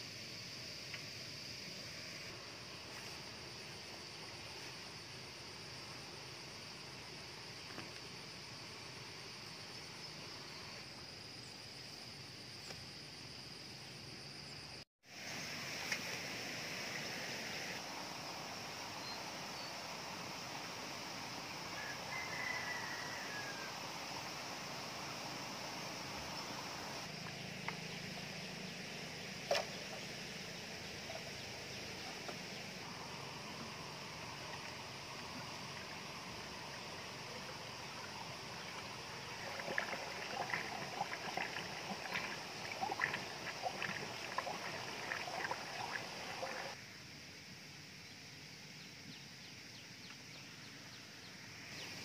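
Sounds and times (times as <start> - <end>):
faint outdoor hiss: 0.0 - 52.0
insects chirring: 0.0 - 52.0.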